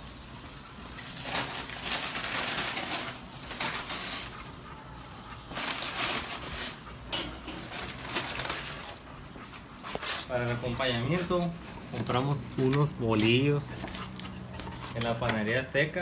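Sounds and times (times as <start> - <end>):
sausages sizzling on grill: 0.0 - 14.3.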